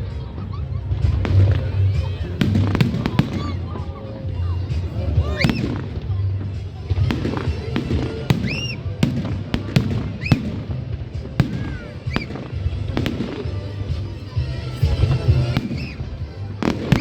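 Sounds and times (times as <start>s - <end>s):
fireworks bangs: 1.0s - 17.0s
fireworks whistling: 1.3s - 3.9s, 4.6s - 6.1s, 7.0s - 17.0s.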